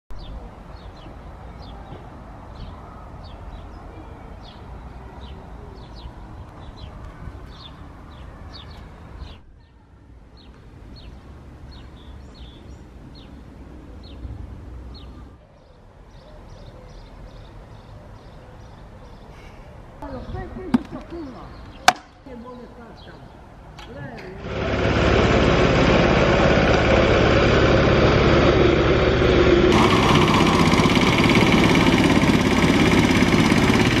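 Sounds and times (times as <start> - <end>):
distant traffic: 0.1 - 34.0
wind: 0.1 - 34.0.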